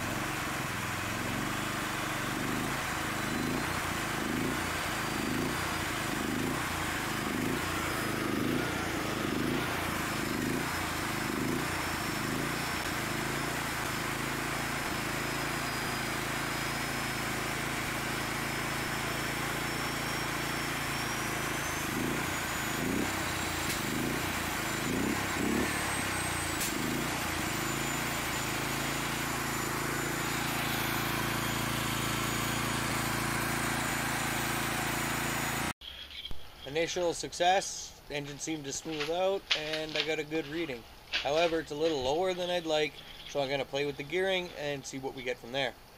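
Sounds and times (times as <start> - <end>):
supercharger whine: 0.0 - 37.4
engine running: 0.0 - 45.9.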